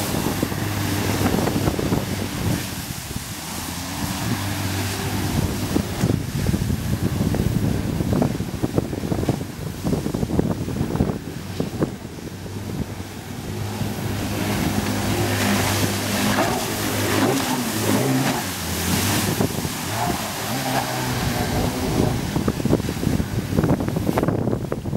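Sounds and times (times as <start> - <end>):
boat engine running at speed: 0.0 - 24.9
wind buffeting microphone: 0.0 - 24.9.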